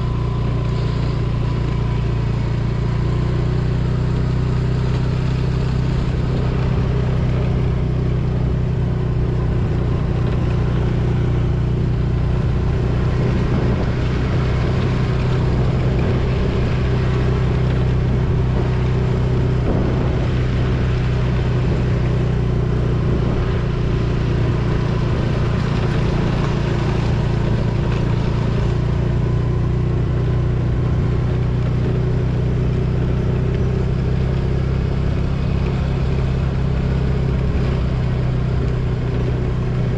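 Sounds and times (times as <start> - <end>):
scooter engine cruising: 0.0 - 39.9.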